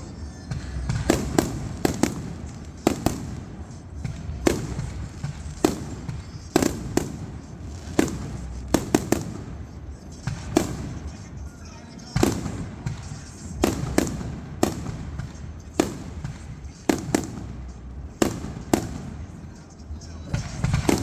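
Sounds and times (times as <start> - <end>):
fireworks bangs: 0.0 - 21.0
low rumble of fireworks: 0.0 - 21.0.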